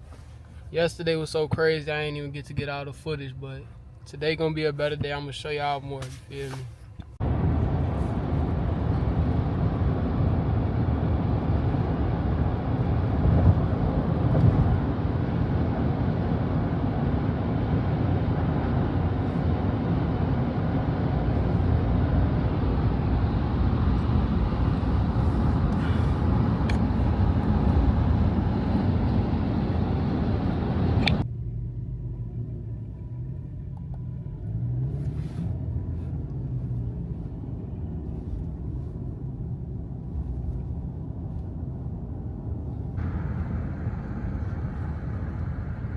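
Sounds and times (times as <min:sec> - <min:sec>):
car road and engine noise: 0:00.0 - 0:45.9.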